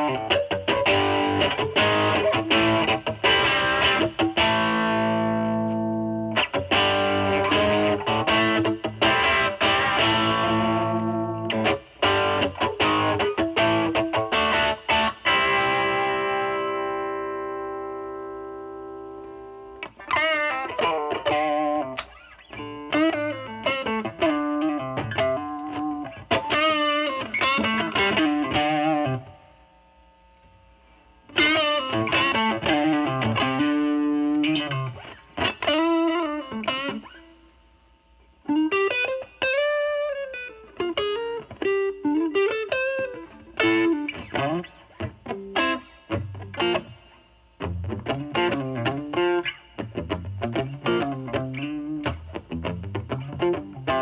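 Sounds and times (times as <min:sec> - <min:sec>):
overdriven electric guitar blues lead: 0:00.0 - 0:29.5, 0:31.3 - 0:37.4, 0:38.4 - 0:54.0.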